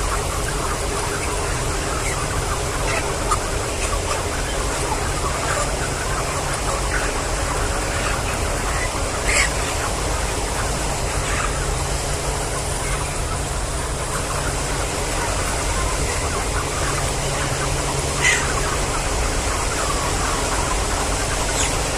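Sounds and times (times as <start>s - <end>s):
chickens chirping and clucking: 0.0s - 21.9s.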